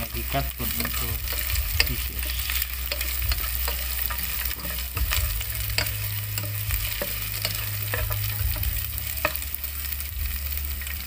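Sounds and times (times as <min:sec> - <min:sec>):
food sizzling in oil: 0:00.0 - 0:11.0
low hum: 0:00.0 - 0:11.0
spatula scraping a pan: 0:00.0 - 0:11.0.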